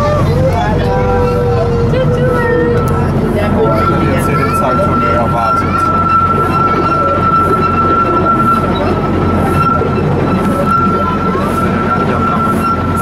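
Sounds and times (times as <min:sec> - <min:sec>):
high whine: 0:00.0 - 0:13.0
train wheels rumbling and rattling: 0:00.0 - 0:13.0.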